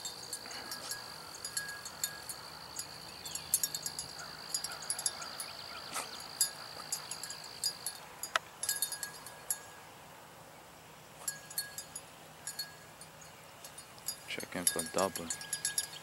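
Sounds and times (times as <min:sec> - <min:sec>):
small bell jingling: 0:00.0 - 0:09.8, 0:11.2 - 0:16.0.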